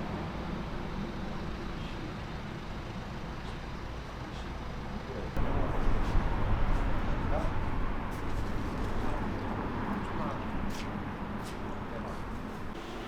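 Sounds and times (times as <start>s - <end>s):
truck engine rumbling: 0.0s - 12.9s.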